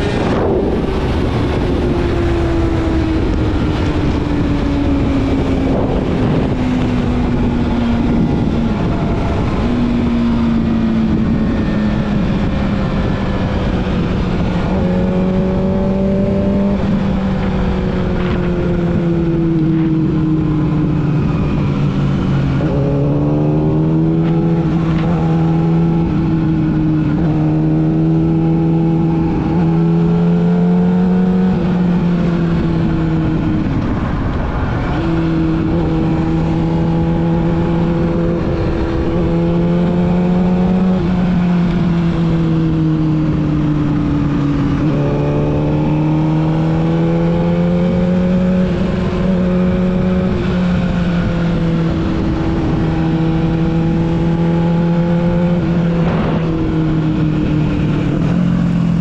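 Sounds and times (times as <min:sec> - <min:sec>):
motorcycle engine revving under load: 0:00.0 - 0:59.0.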